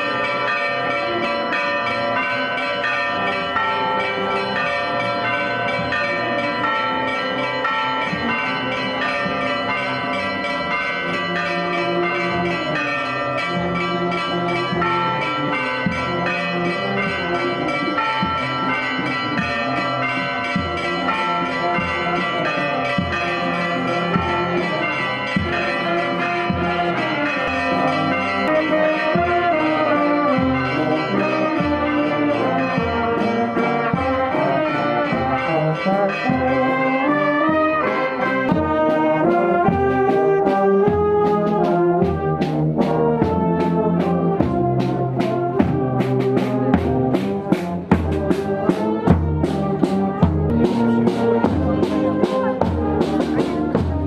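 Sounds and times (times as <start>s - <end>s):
church bells pealing: 0.0s - 54.0s
marching band playing: 0.0s - 54.0s.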